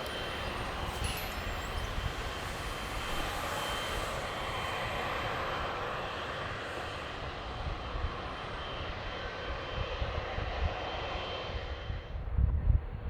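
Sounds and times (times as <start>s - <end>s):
jet engine rushing with whine: 0.0s - 13.0s.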